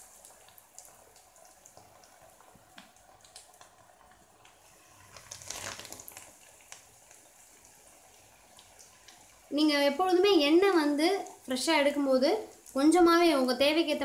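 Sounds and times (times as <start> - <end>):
batter sizzling in hot oil: 0.0 - 14.0.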